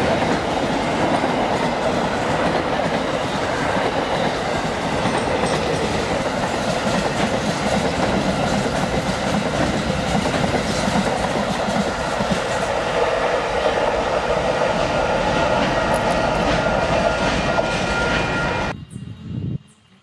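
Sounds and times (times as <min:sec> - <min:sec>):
freight train wheels rumbling: 0:00.0 - 0:19.7.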